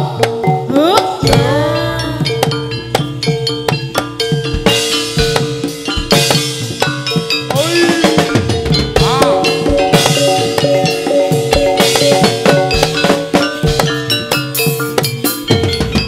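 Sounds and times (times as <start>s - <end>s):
ringing metallic notes: 0.0s - 16.0s
quick dense drum strokes: 1.2s - 16.0s.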